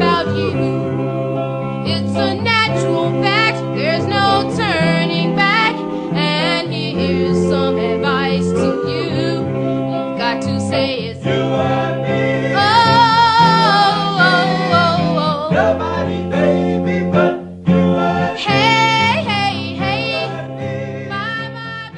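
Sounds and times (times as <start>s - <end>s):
song with singing: 0.0s - 21.9s.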